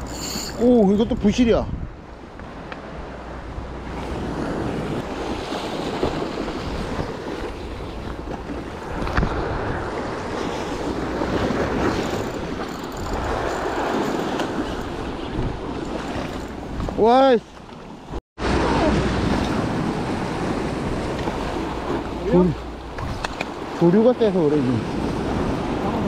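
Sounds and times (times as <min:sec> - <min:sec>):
wind buffeting microphone: 0:00.0 - 0:26.0
surf washing against rocks: 0:02.6 - 0:17.4, 0:18.4 - 0:26.0.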